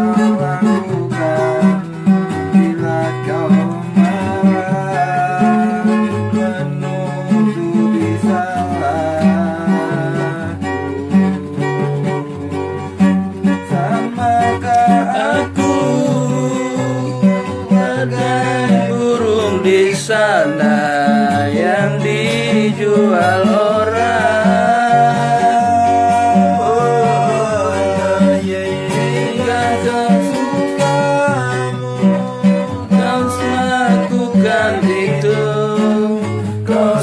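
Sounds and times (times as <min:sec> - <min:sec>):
acoustic guitar strumming: 0:00.0 - 0:37.0
person singing: 0:00.0 - 0:37.0.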